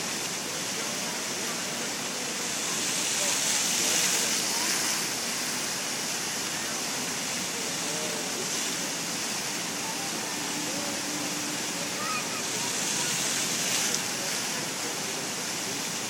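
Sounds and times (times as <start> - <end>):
fountain water splashing on stone: 0.0 - 16.0.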